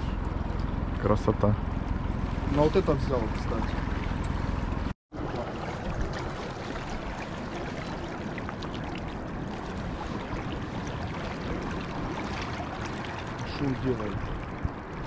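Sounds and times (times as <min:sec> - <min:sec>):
faint small splashes: 0:01.8 - 0:15.0.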